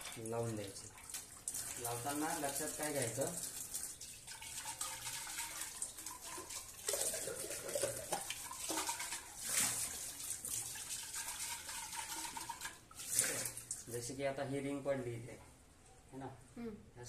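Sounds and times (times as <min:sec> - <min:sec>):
tap water splashing into sink: 0:00.0 - 0:13.9.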